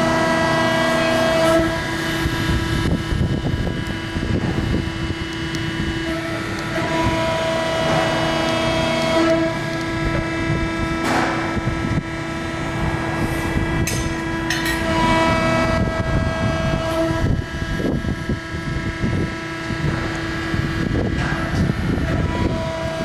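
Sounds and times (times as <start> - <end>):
hydraulic pump whine: 0.0 - 23.0.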